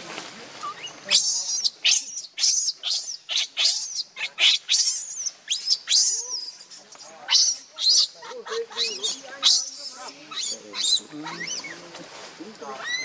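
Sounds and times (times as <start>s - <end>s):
baby monkey shrieking: 0.8s - 11.8s, 12.8s - 13.0s.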